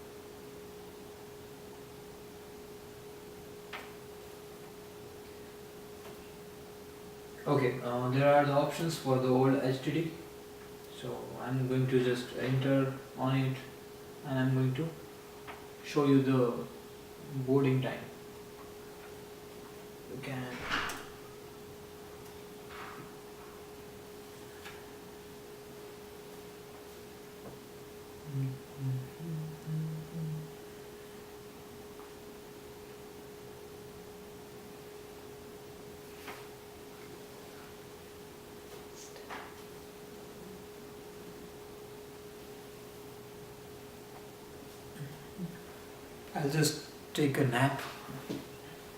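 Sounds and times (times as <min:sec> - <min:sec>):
faint steady hum: 0:00.0 - 0:48.9
low hiss: 0:00.0 - 0:48.9.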